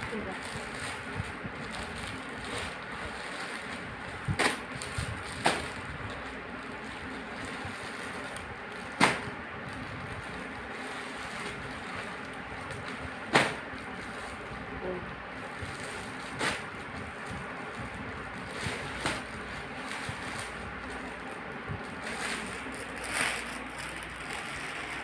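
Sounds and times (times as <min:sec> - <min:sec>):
plastic bag rustling: 0:00.0 - 0:25.0.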